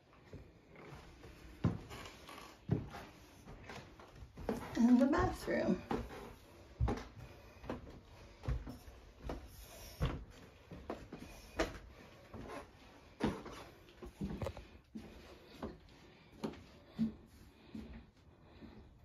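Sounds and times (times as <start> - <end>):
footsteps on wooden stairs and floor: 0.0 - 19.0.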